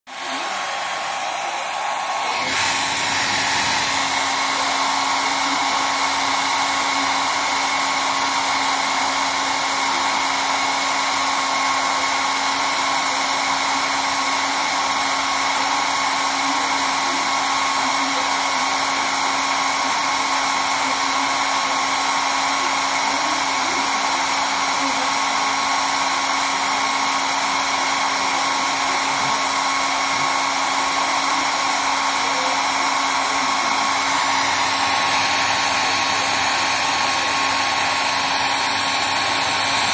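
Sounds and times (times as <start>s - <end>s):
electric blower motor hum: 0.1s - 39.9s.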